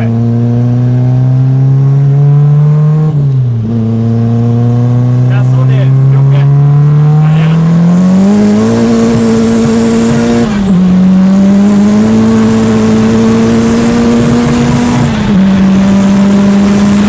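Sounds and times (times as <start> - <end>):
car engine at high revs: 0.0 - 17.0
road and wind noise: 0.0 - 17.0.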